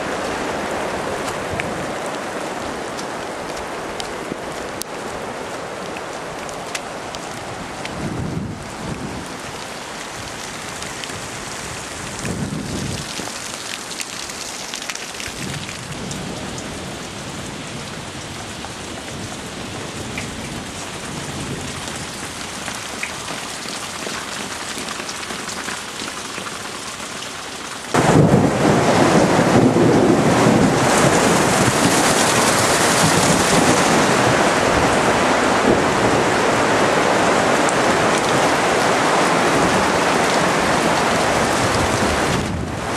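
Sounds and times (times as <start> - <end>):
rain on plastic roof: 0.0 - 42.9.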